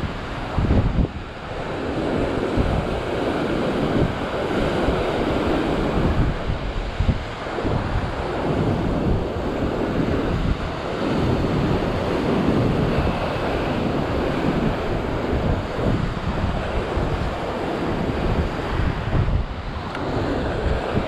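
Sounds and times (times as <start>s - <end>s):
ocean surf breaking on rocks: 0.0s - 21.0s
wind buffeting microphone: 0.0s - 21.0s.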